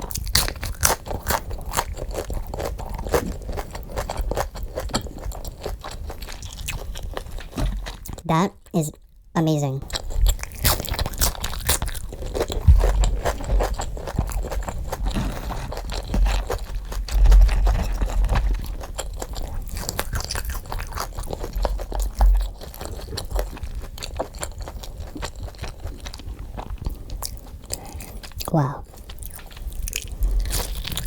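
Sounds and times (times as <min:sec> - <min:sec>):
crunchy food chewing: 0:00.0 - 0:08.2, 0:09.8 - 0:31.0.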